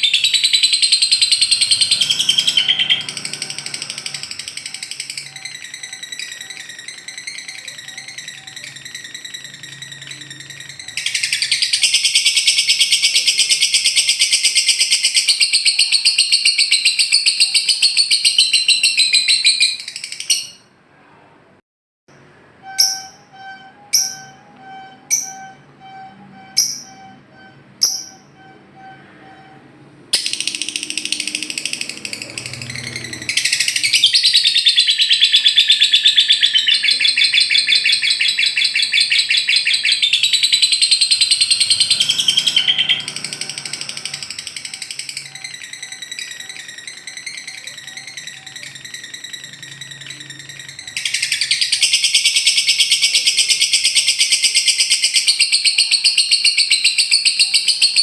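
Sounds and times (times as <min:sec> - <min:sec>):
lovebird sharp chirps: 0:00.0 - 0:20.6, 0:22.6 - 0:29.6, 0:30.2 - 0:58.0
lovebird trilling chatter: 0:00.0 - 0:20.6, 0:22.6 - 0:29.4, 0:30.2 - 0:58.0.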